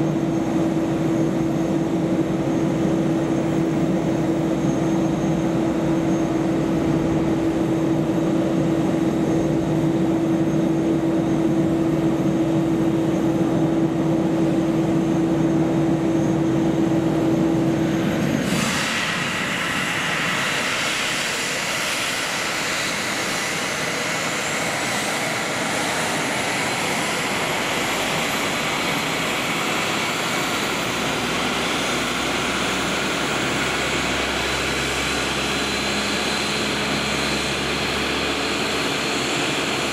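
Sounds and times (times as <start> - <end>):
jet engine hiss and whine: 0.0 - 39.9
jet engines humming: 0.0 - 39.9.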